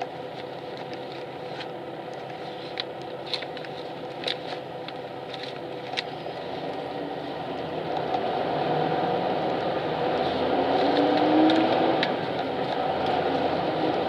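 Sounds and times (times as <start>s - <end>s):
engine and ventilation hum: 0.0s - 14.0s.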